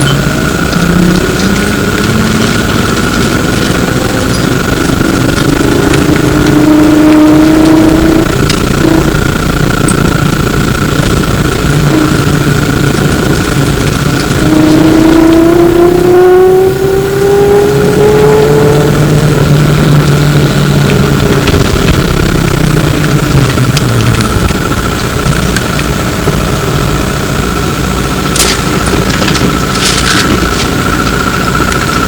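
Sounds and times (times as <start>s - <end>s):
electric motor whining: 0.0s - 32.0s
road rumble: 0.0s - 32.0s
steady high tone: 0.0s - 32.0s.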